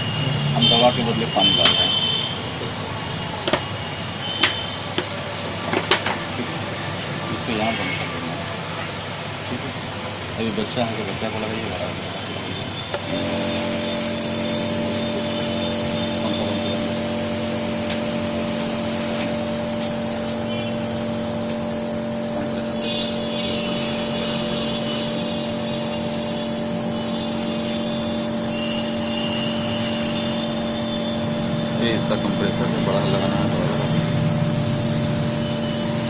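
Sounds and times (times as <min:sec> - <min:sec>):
nebuliser motor humming and hissing: 0:00.0 - 0:08.0, 0:12.8 - 0:36.0.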